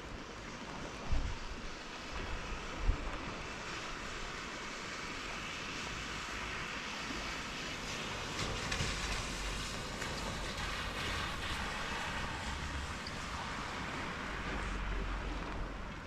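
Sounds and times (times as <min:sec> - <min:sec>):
wind rumble on microphone: 0:00.0 - 0:16.0
rain falling: 0:01.7 - 0:16.0.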